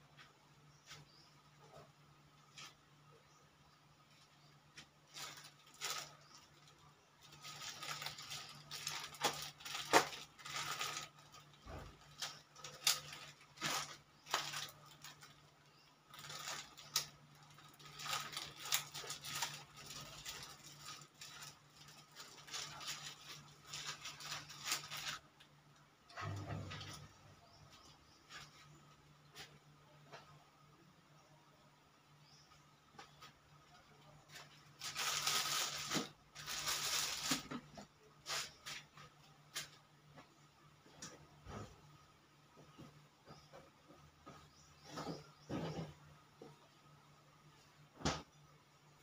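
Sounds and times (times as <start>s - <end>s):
rustling and scraping at counter: 0.1s - 3.2s, 4.0s - 30.4s, 33.0s - 42.0s, 42.6s - 46.6s.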